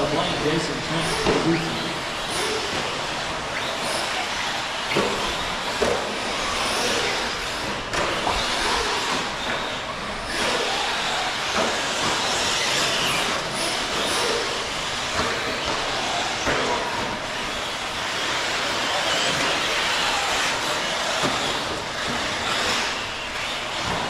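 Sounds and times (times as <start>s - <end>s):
rc cars racing: 0.0s - 24.0s.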